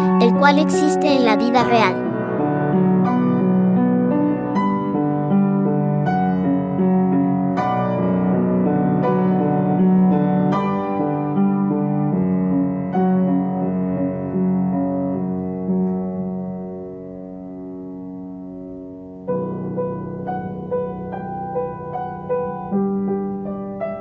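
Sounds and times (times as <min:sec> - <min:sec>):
slow piano music: 0:00.0 - 0:24.0.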